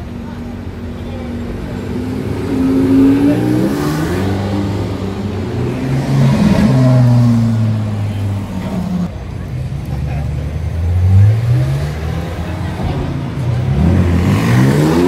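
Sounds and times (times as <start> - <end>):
car engine revving: 0.4 - 9.1, 10.6 - 15.0
car engine accelerating: 0.4 - 15.0.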